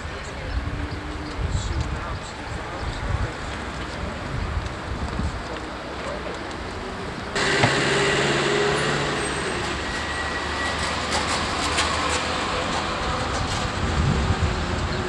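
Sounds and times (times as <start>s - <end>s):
street traffic: 0.0s - 15.0s
vehicle engine hum: 2.6s - 15.0s.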